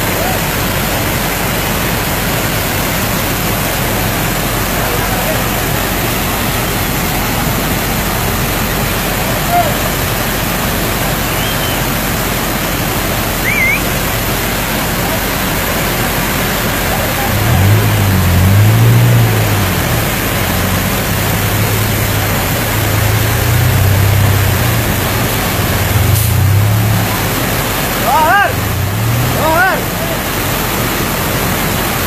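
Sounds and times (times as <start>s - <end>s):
vehicle engine low hum: 0.0s - 28.0s
waterfall crashing: 0.0s - 32.0s.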